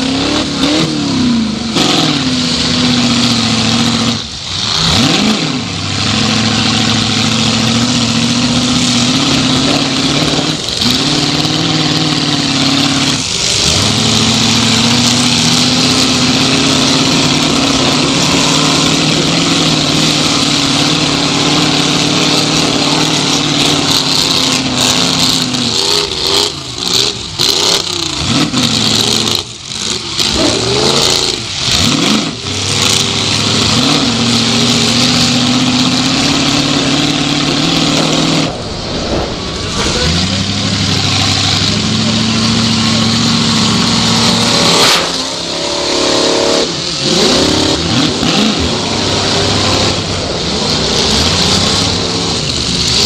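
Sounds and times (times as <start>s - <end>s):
car engine running hard: 0.0s - 53.0s.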